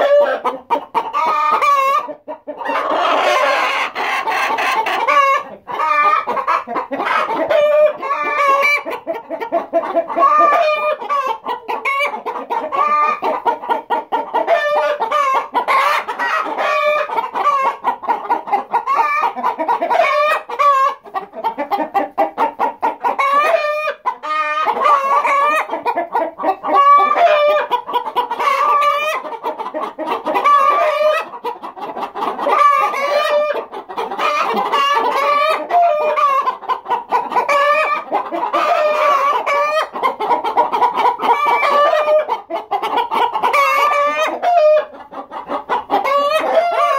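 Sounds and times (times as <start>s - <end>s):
hens clucking: 0.0s - 46.9s.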